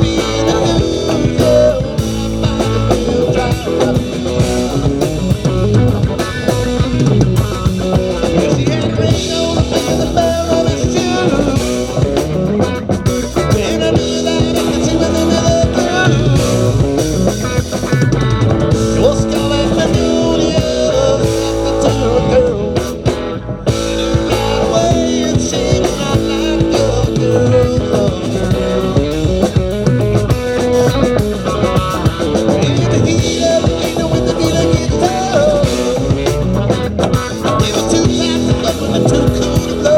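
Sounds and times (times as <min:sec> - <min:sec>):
electric guitar: 0:00.0 - 0:39.9
live band playing: 0:00.0 - 0:39.9.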